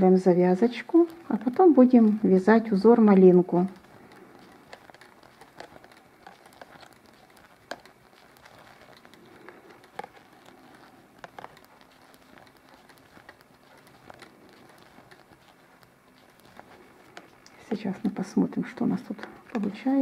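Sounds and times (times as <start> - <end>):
knitting needles clicking: 0.0 - 20.0.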